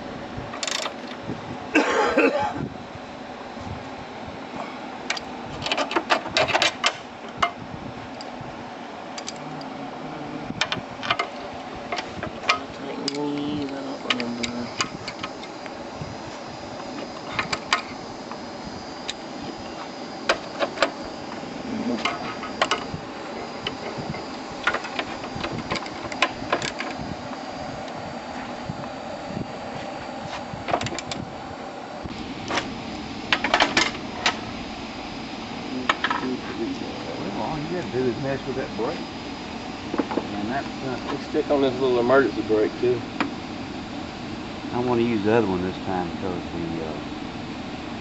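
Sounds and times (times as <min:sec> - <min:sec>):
background hum: 0:00.0 - 0:48.0.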